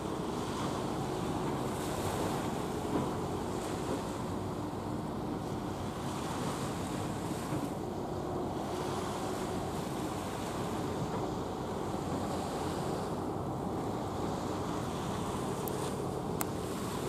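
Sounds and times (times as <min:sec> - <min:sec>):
sea washing: 0:00.0 - 0:17.0.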